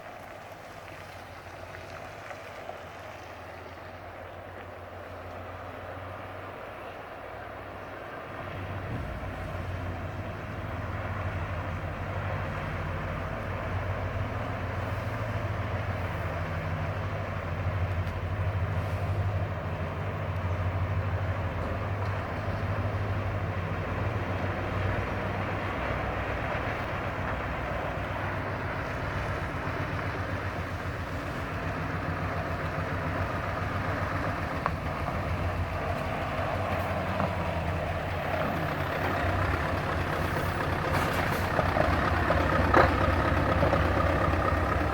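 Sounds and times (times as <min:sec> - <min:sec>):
road and wind noise hiss: 0:00.0 - 0:44.9
truck diesel engine drone: 0:00.0 - 0:44.9.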